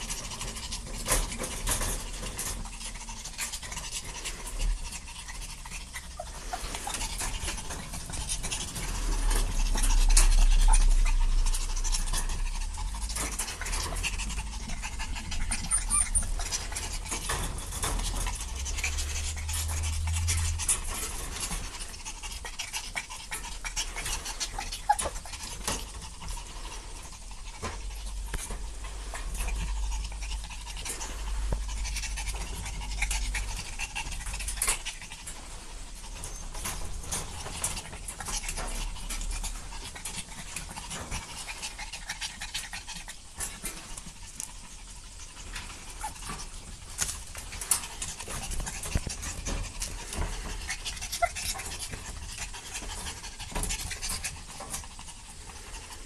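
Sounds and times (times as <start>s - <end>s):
puppies panting: 0.0s - 56.0s
puppies scuffling: 0.0s - 56.0s.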